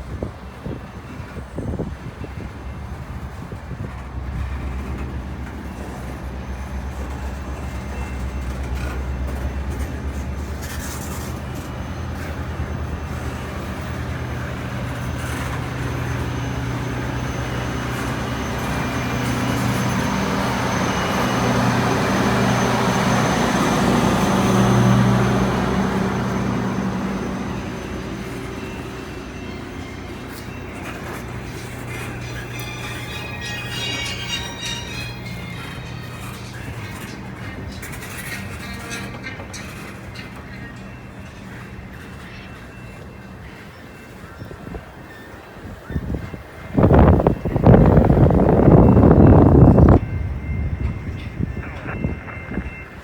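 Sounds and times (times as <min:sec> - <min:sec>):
diesel locomotives running: 0:00.0 - 0:53.0.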